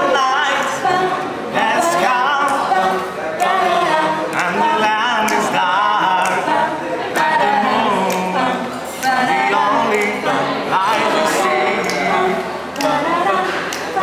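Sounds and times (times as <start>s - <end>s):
group of young people singing: 0.0s - 14.0s.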